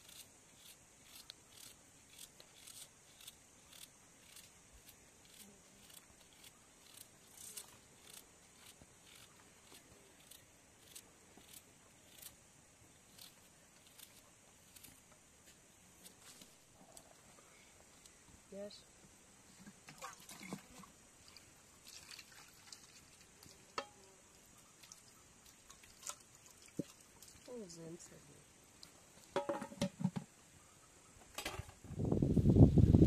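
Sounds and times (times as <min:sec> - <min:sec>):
steady high hiss: 0:00.0 - 0:19.8, 0:20.7 - 0:33.0.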